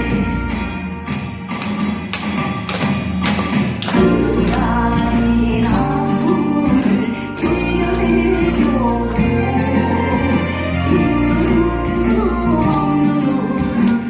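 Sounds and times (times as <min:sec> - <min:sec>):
folk song with steady beat: 0:00.0 - 0:14.0.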